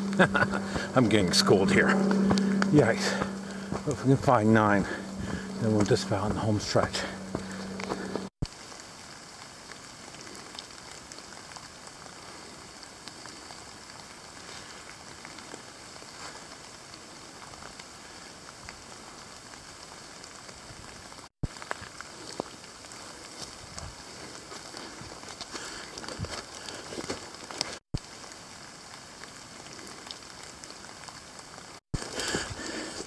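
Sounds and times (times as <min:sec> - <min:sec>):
light rain on leaves: 0:00.0 - 0:01.0, 0:01.9 - 0:33.0
footsteps on wet leaves: 0:00.0 - 0:33.0.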